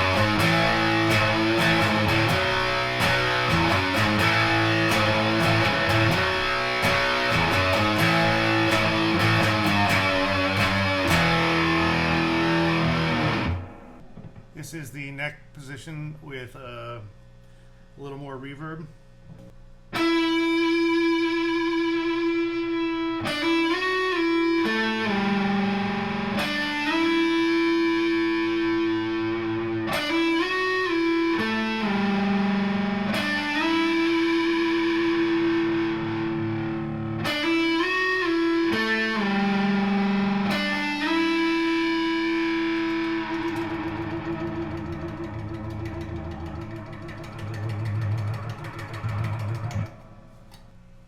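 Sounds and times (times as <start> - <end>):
fuzzy electric guitar riff: 0.0 - 14.5, 19.9 - 50.6.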